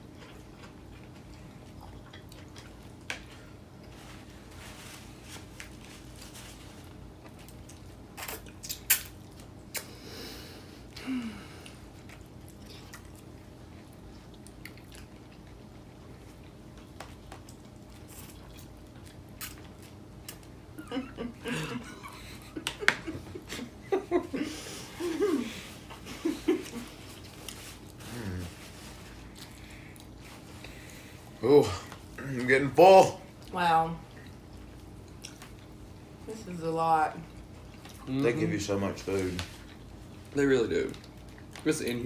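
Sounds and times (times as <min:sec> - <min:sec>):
quiet chewing: 0:00.0 - 0:10.0, 0:10.7 - 0:20.6, 0:24.4 - 0:32.5, 0:33.3 - 0:36.2, 0:37.2 - 0:42.0
steady low hum: 0:00.0 - 0:42.0.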